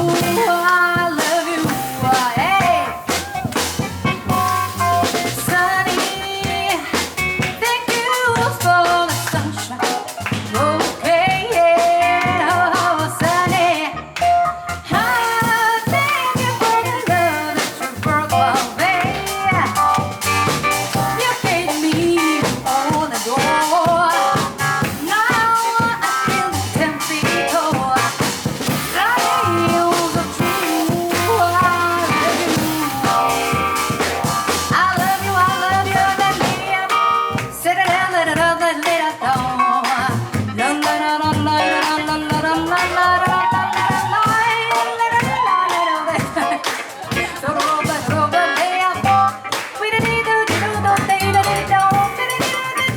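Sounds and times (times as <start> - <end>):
jazz combo playing: 0.0 - 45.5, 47.1 - 52.9.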